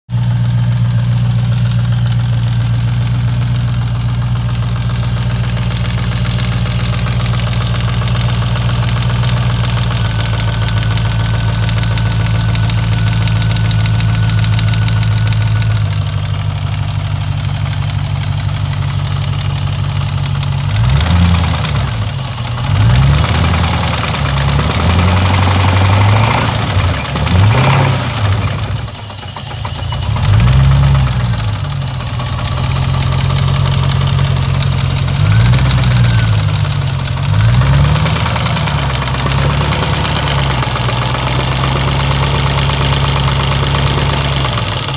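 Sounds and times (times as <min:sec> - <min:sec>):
car engine idling with knock: 0:00.1 - 0:44.9.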